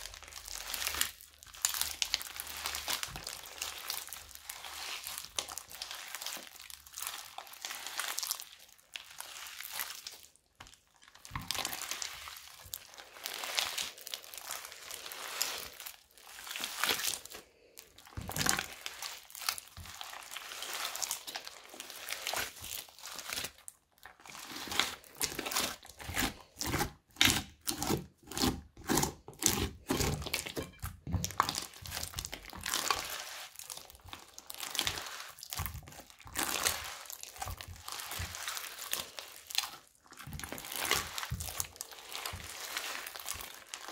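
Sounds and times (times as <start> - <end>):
crunchy slime squishing and popping: 0.0 - 43.9.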